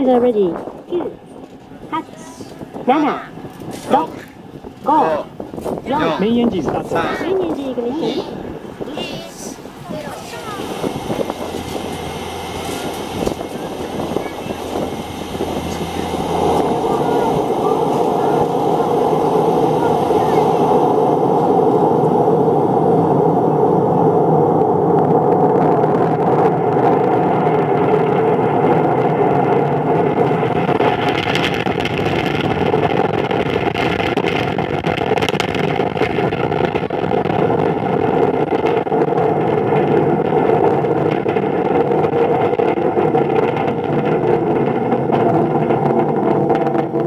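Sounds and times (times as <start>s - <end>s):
rocket launch roar over loudspeakers: 0.0s - 47.0s.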